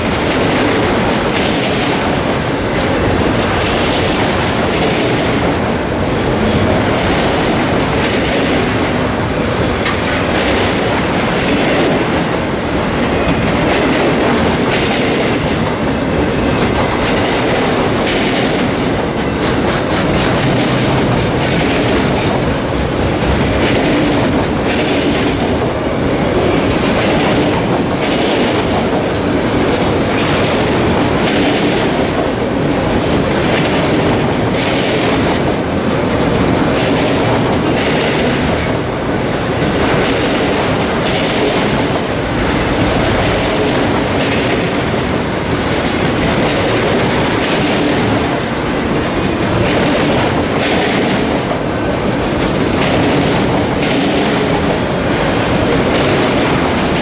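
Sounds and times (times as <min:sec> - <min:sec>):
steel wheels clattering on rails: 0:00.0 - 0:57.0.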